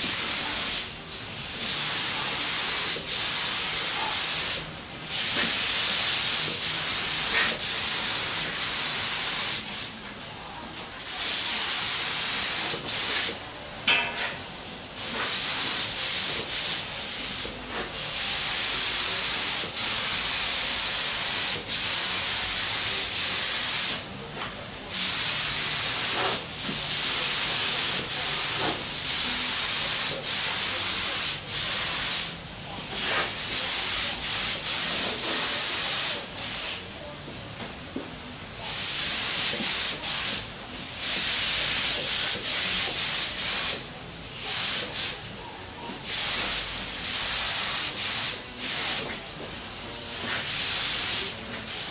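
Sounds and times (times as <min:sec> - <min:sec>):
spray paint hissing: 0:00.0 - 0:09.9, 0:11.2 - 0:13.4, 0:15.0 - 0:24.1, 0:24.9 - 0:36.8, 0:38.7 - 0:45.2, 0:46.0 - 0:51.9.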